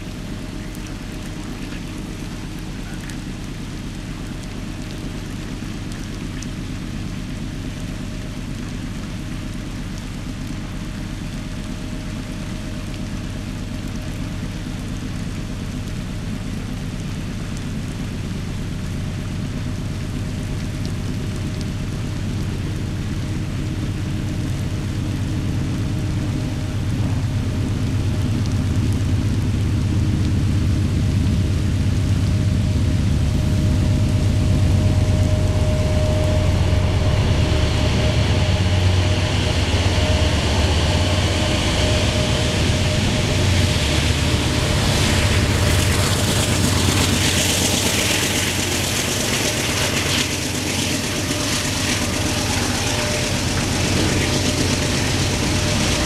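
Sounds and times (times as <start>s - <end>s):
deep locomotive engine rumble: 0.0s - 56.0s.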